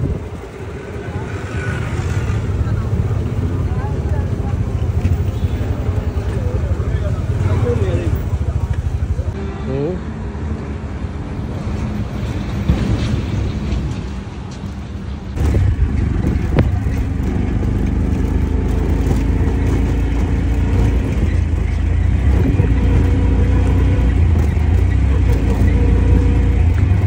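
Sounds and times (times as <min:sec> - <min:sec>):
vehicle engine droning: 0:00.0 - 0:14.0, 0:15.2 - 0:27.0.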